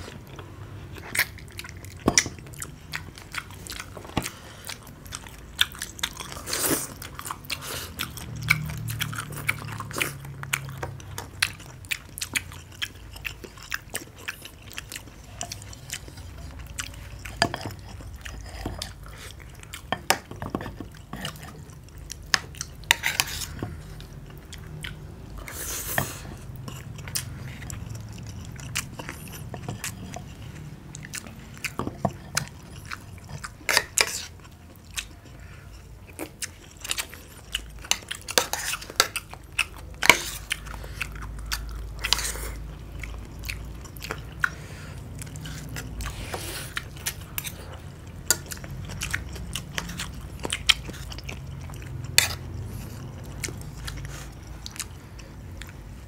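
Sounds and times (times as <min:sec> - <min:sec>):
people chewing food: 0:00.0 - 0:56.0.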